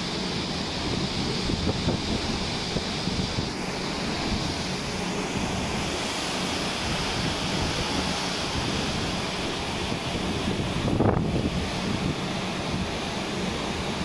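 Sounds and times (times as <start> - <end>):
strong wind buffeting microphone: 0.0 - 14.0
waves breaking against ship hull: 0.0 - 14.0.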